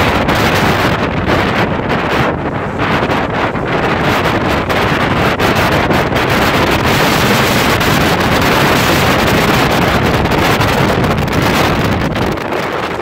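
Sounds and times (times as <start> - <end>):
motorboat running: 0.0 - 13.0
water along hull: 0.0 - 13.0
wind buffeting microphone: 0.0 - 13.0.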